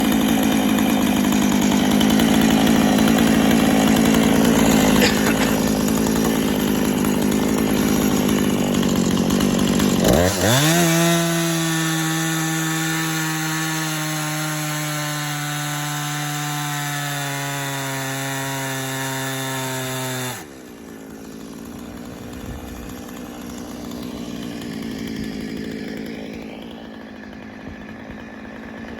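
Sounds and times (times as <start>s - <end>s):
chainsaw cutting log: 0.0s - 28.9s.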